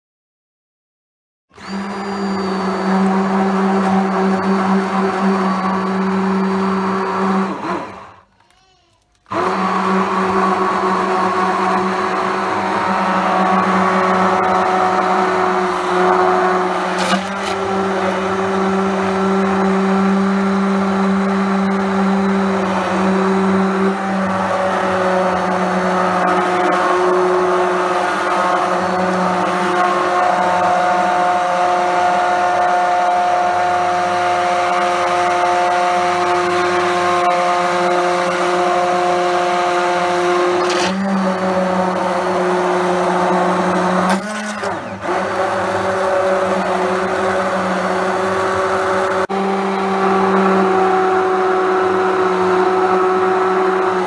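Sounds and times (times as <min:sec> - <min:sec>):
hand blender motor running: 0:01.5 - 0:54.0.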